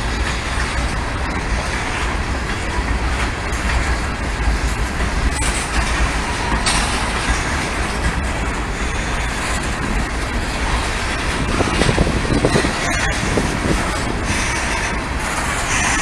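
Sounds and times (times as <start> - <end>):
freight train wheels rumbling on rail: 0.0 - 16.0
train clattering: 0.0 - 16.0.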